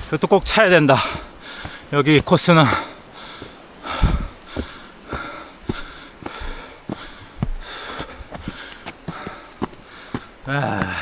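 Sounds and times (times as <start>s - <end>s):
footsteps on a path: 0.0s - 11.0s
man breathing hard: 1.0s - 1.9s, 2.6s - 11.0s.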